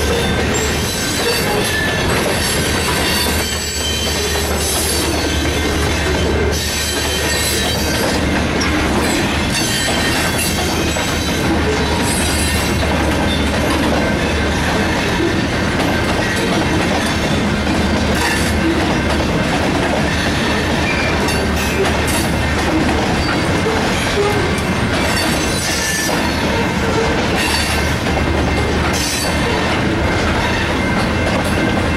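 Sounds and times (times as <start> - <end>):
freight train rumbling past: 0.0 - 31.9
steel wheels squealing on rail: 0.0 - 31.9
wheels clacking over rail joints: 0.0 - 31.9.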